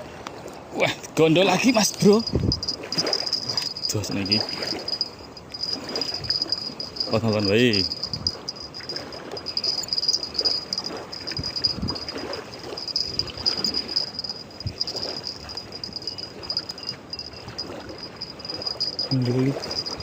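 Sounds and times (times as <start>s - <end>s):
insects trilling: 1.6s - 20.0s.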